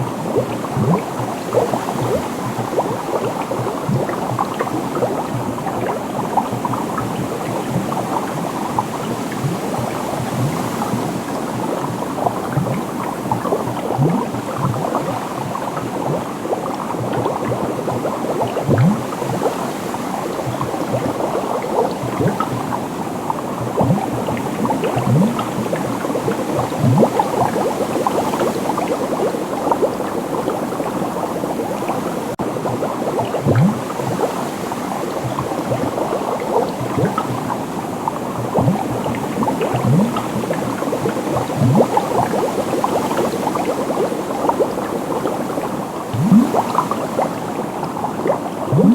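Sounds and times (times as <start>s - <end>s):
liquid bubbling: 0.0s - 48.9s.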